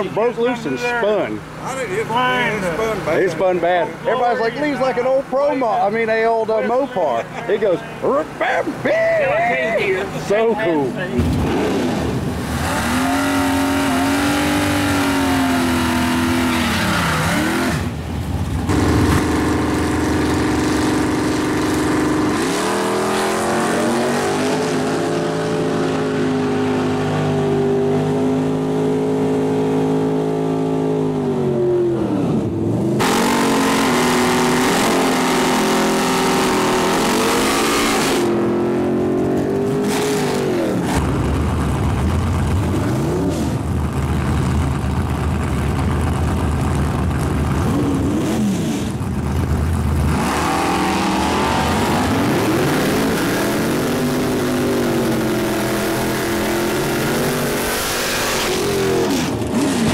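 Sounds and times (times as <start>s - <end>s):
race car engines at high rpm: 0.0s - 59.9s.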